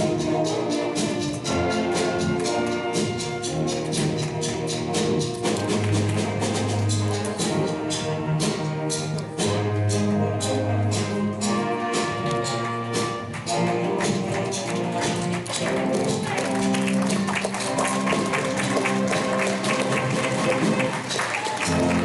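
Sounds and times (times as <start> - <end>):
brass band playing: 0.0 - 22.0
steady drum beat: 0.0 - 22.0.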